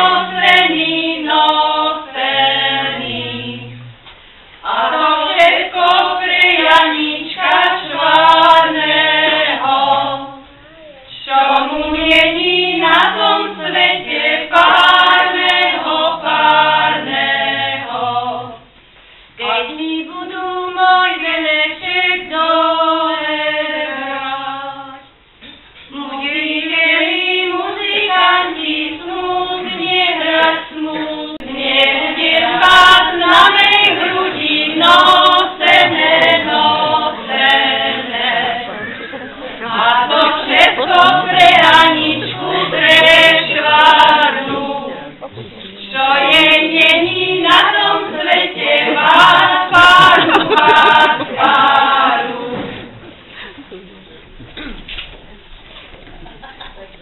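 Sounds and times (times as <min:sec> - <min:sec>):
women singing unaccompanied: 0:00.0 - 0:03.9, 0:04.6 - 0:18.8, 0:19.4 - 0:25.2, 0:25.9 - 0:52.9.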